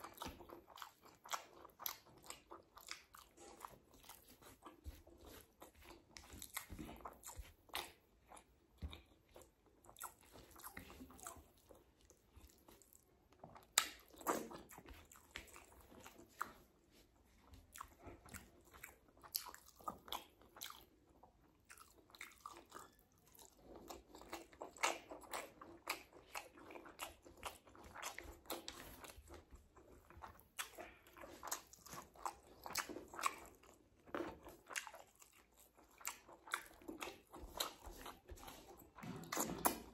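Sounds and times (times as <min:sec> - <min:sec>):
person chewing and smacking: 0:00.0 - 0:39.9.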